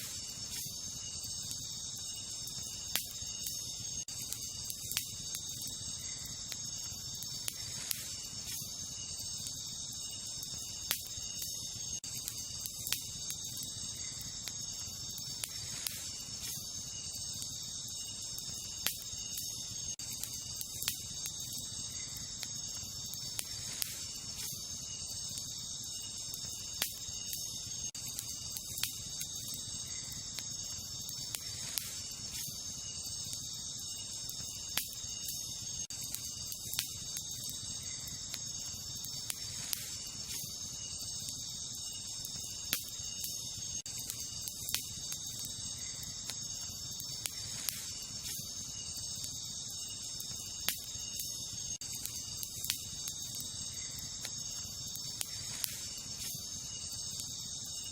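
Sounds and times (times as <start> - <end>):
campfire crackling and popping: 0.0 - 57.9
crickets chirping: 0.0 - 57.9.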